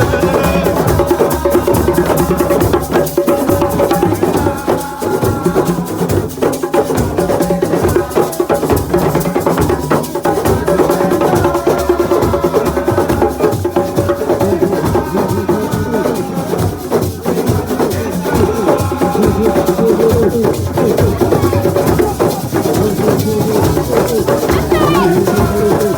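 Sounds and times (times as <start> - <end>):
drum and percussion: 0.0 - 25.9
group singing: 0.0 - 25.9.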